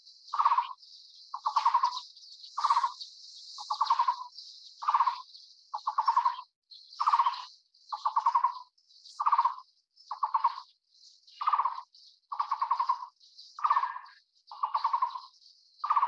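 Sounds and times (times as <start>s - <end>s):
bird trilled call: 0.3s - 3.0s, 3.6s - 10.7s, 11.4s - 16.0s.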